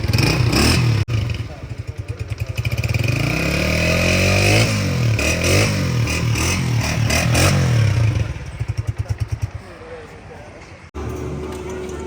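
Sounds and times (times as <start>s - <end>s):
motorcycle engine revving: 0.0s - 10.0s
motorcycle engine idling: 0.0s - 12.0s.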